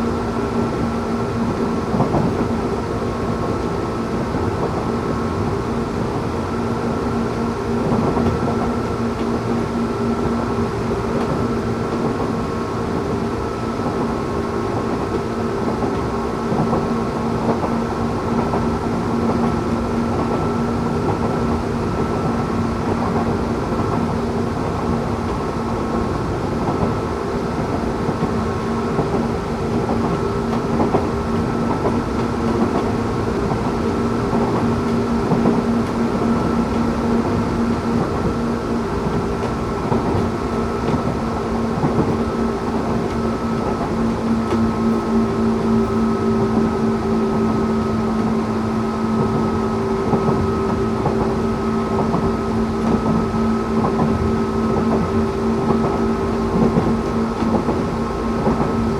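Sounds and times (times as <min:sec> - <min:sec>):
train wheel and track rumble: 0:00.0 - 0:58.9.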